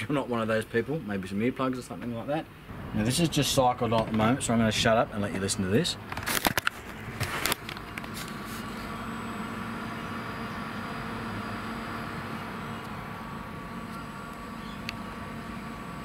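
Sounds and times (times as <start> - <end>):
fridge compressor and fan humming: 0.0 - 16.0.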